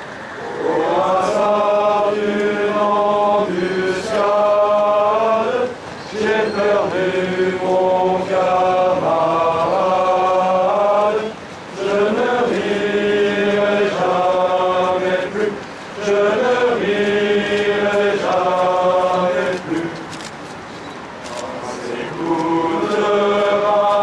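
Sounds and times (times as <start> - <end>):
voices singing a slow chant: 0.0 - 20.4, 21.3 - 24.0.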